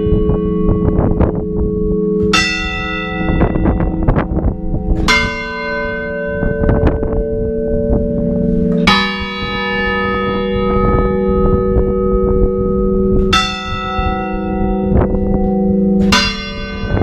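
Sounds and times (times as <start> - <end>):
heavy church bell strokes: 0.0 - 17.0.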